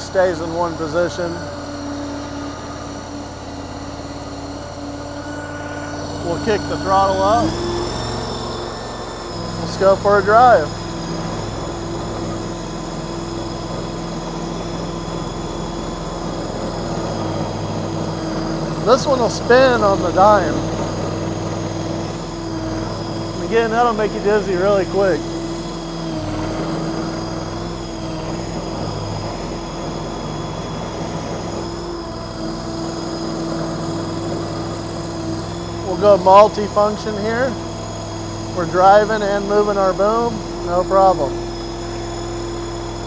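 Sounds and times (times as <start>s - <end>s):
mini skid steer engine running: 0.0s - 43.0s
steady whine: 0.0s - 43.0s.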